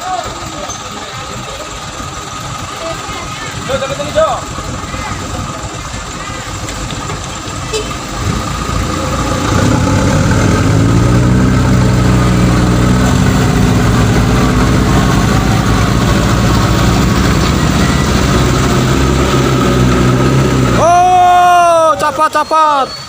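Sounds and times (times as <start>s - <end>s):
truck engine running hard: 0.0s - 23.0s.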